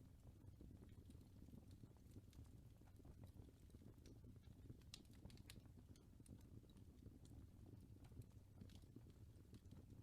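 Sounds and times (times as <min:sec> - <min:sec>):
fireplace crackling: 0:00.1 - 0:10.0.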